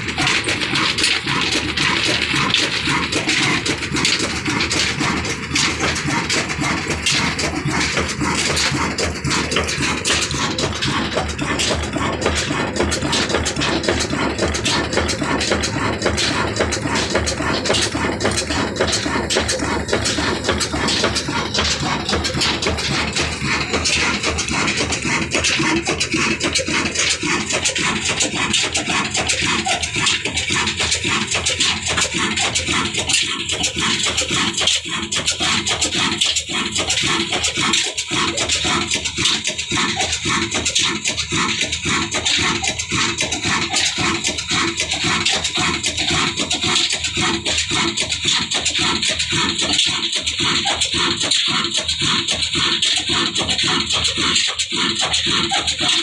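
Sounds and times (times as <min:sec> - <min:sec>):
diesel engine clattering: 0:00.0 - 0:56.0.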